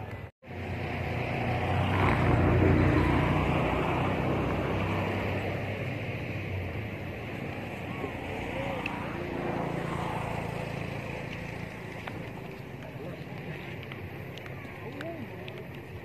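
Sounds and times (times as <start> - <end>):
vehicle engine passing by: 0.0 - 15.1.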